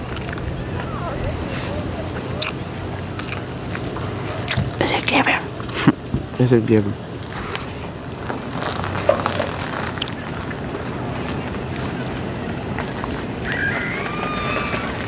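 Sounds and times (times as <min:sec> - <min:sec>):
faint eating clicks: 0:00.0 - 0:15.0
low outdoor rumble: 0:00.0 - 0:15.0.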